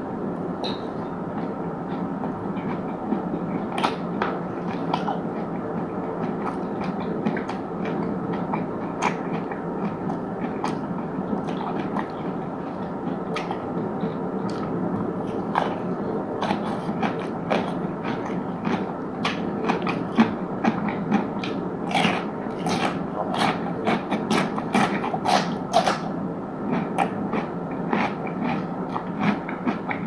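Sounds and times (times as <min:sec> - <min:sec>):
steady background noise: 0:00.0 - 0:30.0
chewing with sharp crunches: 0:00.7 - 0:30.0.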